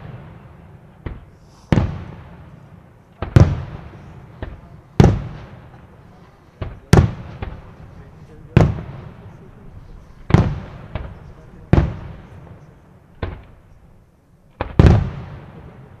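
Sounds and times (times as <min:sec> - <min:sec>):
smaller firework pops: 0:00.0 - 0:09.6, 0:10.2 - 0:13.8, 0:14.5 - 0:16.0
firework booms: 0:00.0 - 0:13.7, 0:14.5 - 0:16.0.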